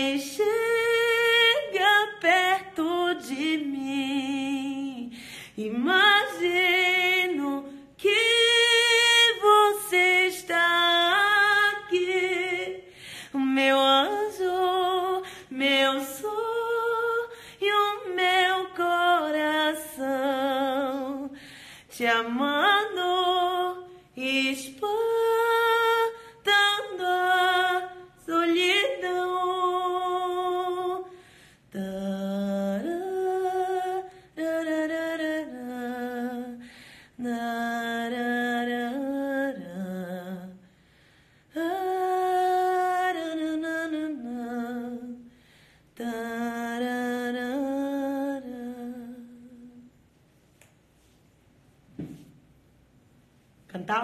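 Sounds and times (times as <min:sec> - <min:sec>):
woman singing unaccompanied: 0:00.0 - 0:40.7, 0:41.5 - 0:45.3, 0:46.0 - 0:49.9.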